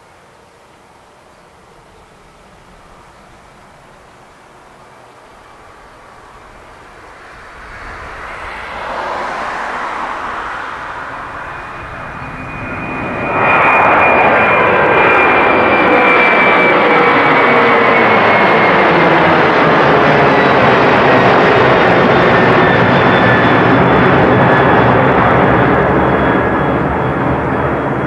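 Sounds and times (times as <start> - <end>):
high fan whine: 0.0 - 28.0
jet engines roaring: 0.9 - 28.0.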